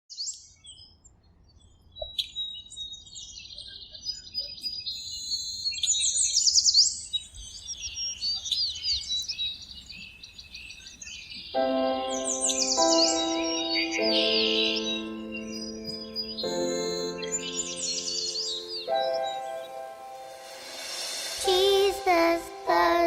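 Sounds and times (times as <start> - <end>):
birds singing and chirping: 1.5 - 20.8.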